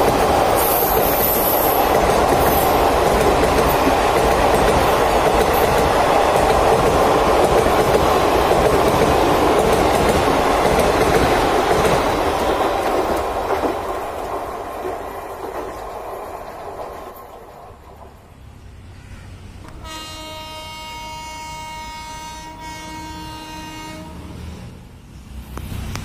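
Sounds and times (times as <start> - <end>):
train wheels rumbling on rails: 0.0 - 20.8.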